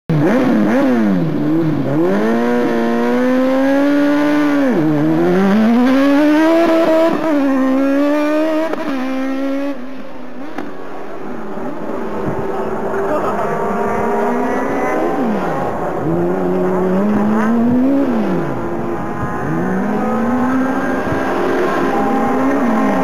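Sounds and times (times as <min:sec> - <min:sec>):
race car engine revving: 0:00.1 - 0:23.0.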